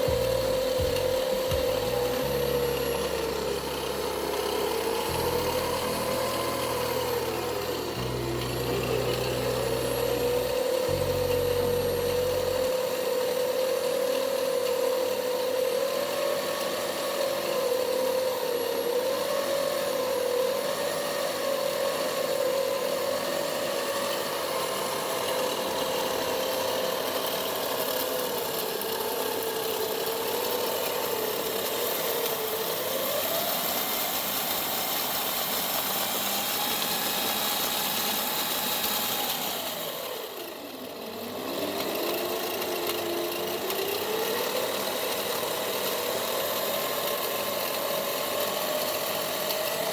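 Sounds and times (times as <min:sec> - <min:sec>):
power tool motor running: 0:00.0 - 0:49.9.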